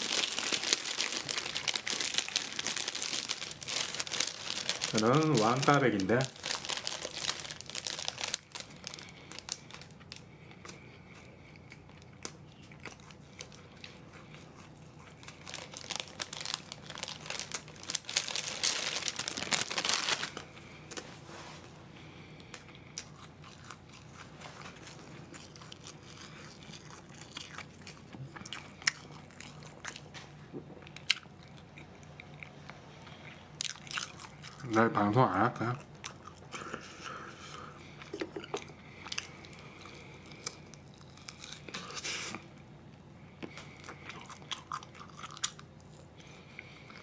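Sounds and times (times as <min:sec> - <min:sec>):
person chewing crunchy food: 0:00.0 - 0:20.8, 0:22.2 - 0:34.7, 0:35.6 - 0:42.6, 0:43.2 - 0:47.0.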